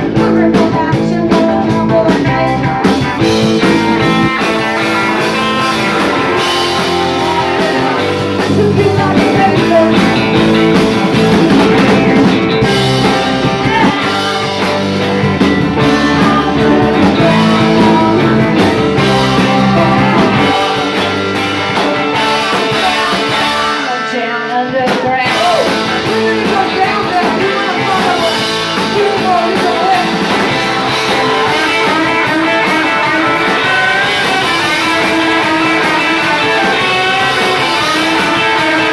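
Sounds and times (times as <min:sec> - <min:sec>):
women singing: 0:00.0 - 0:02.7, 0:06.1 - 0:10.4, 0:13.2 - 0:14.9, 0:15.8 - 0:38.9
bass guitar: 0:00.0 - 0:38.9
drums: 0:00.0 - 0:38.9
electric guitars: 0:00.0 - 0:38.9.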